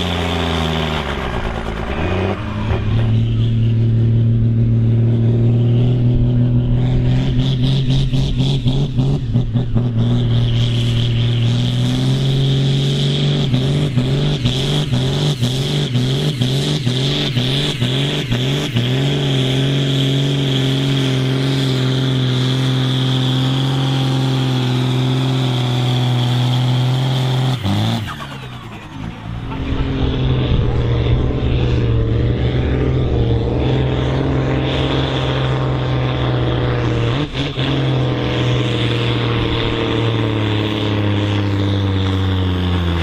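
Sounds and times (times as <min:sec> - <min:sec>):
tractor diesel engine at full load: 0:00.0 - 0:43.0.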